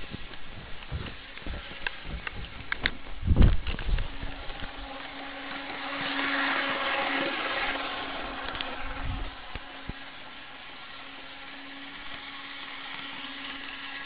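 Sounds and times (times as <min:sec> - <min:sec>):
small electric motor humming: 0:00.0 - 0:14.0
wheels whirring on rails: 0:00.0 - 0:14.0.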